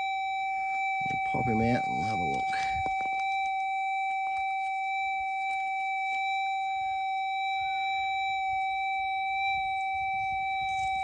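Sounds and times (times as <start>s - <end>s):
metal detector steady tone: 0.0s - 11.0s.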